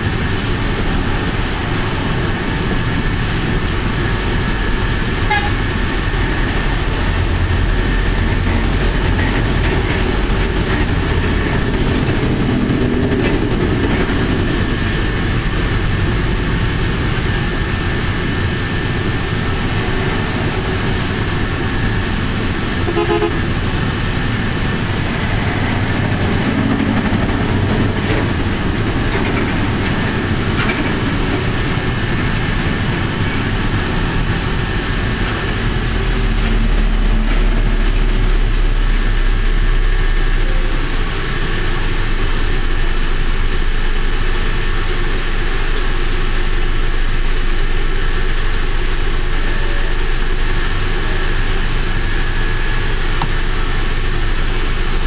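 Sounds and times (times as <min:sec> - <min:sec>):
road and wind noise: 0:00.0 - 0:55.0
truck passing rumble: 0:00.0 - 0:55.0.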